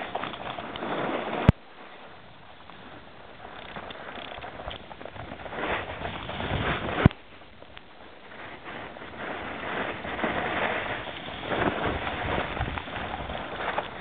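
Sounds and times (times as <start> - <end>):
snowboard scraping over snow: 0.0 - 14.0
wind on microphone: 0.0 - 14.0.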